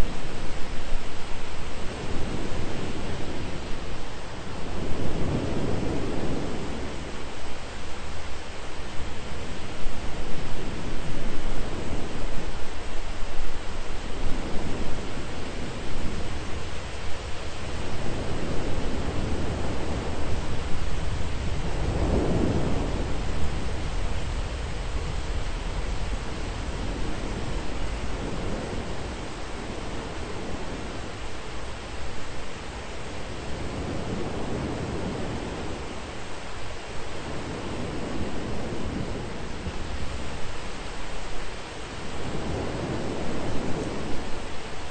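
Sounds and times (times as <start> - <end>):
low thunder rumble: 0.0 - 44.9
rain hissing: 0.0 - 44.9.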